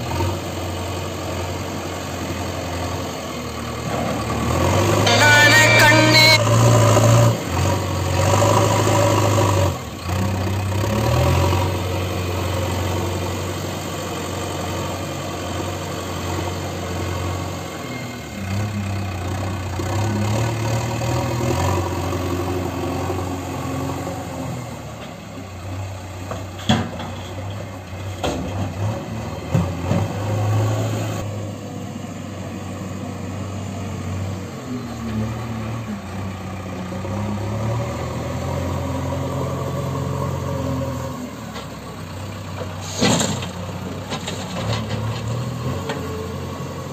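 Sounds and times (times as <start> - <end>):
diesel engine running: 0.1 - 46.9.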